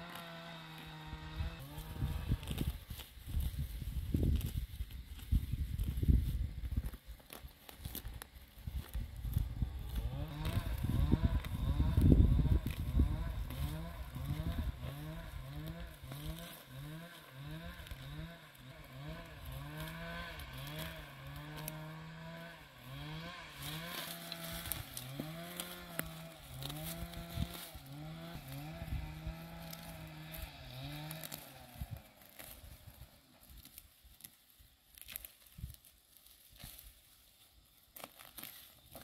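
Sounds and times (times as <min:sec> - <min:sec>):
small engine revving: 0:00.0 - 0:34.3.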